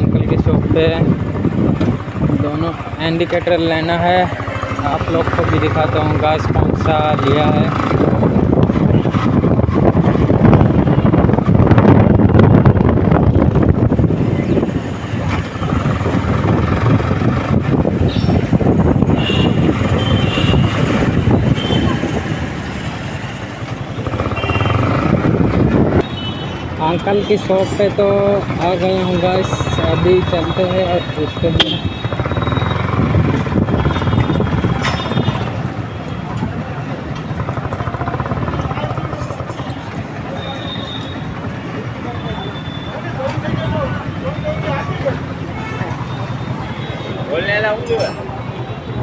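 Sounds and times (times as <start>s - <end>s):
wind buffeting microphone: 0.0s - 40.4s
motorcycle engine: 0.0s - 49.0s
road noise: 0.0s - 49.0s.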